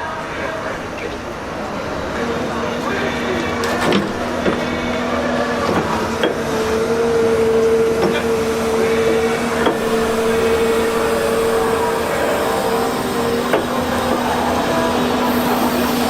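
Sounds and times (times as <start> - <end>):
machine whining: 0.0 - 16.0.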